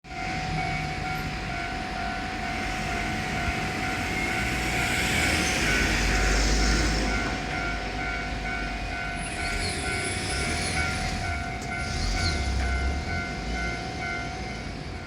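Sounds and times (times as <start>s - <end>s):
electric train rumble: 0.1s - 15.0s
railroad crossing bell ringing: 0.1s - 15.0s.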